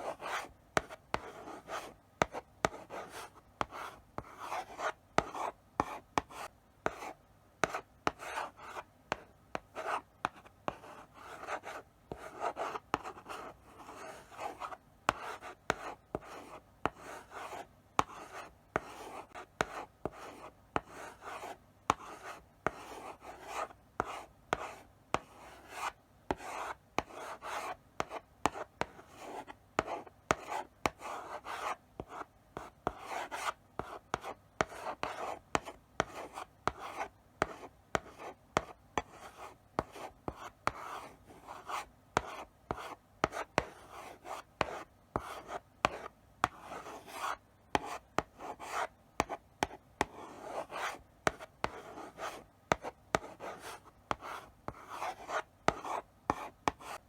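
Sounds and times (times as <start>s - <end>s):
chalk scratching on blackboard: 0.0s - 9.2s, 9.8s - 57.0s
chalk tapping on blackboard: 0.1s - 57.0s.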